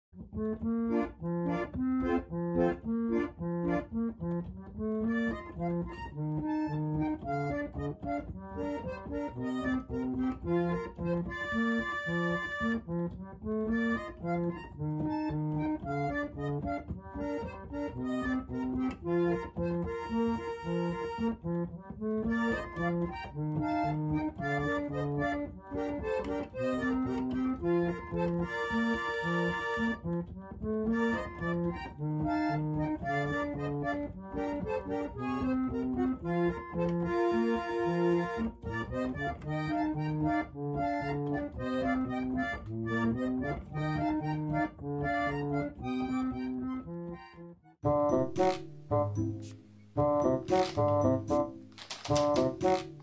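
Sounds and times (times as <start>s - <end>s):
bouncy instrumental tune: 0.2s - 53.0s.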